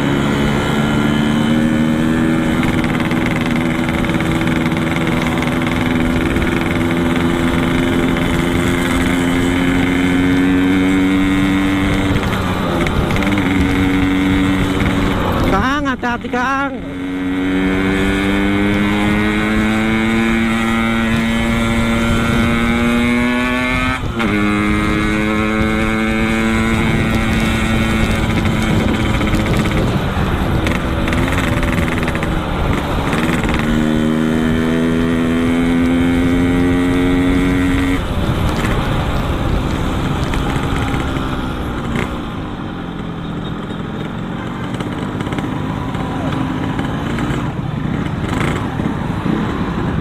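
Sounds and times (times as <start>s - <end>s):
two-stroke motorcycle engine: 0.0s - 50.0s
wind and road noise: 0.0s - 50.0s.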